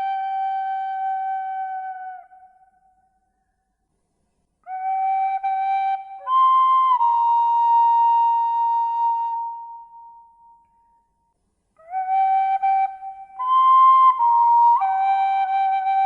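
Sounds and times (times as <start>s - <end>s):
calm flute-like music: 0.0s - 3.7s, 4.6s - 16.0s.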